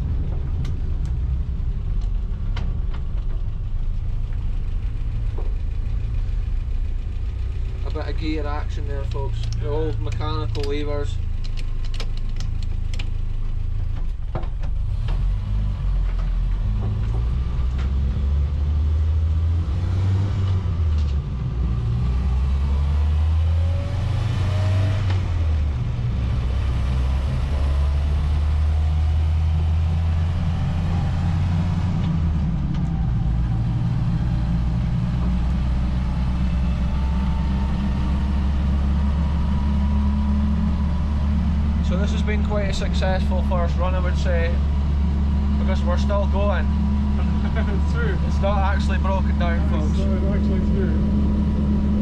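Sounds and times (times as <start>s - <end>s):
vehicle engine drone: 0.0s - 52.0s.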